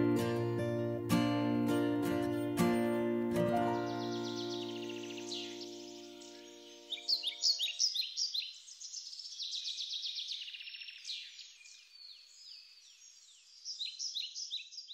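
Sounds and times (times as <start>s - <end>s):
songbirds singing: 1.6s - 14.9s.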